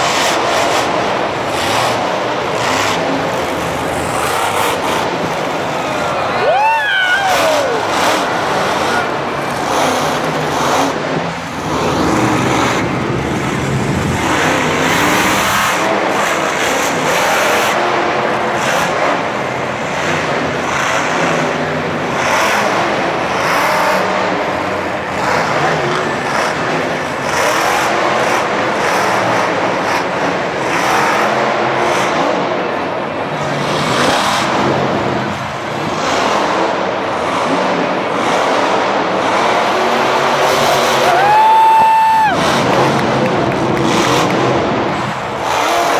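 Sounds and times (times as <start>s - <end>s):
monster truck engine revving: 0.0s - 45.9s.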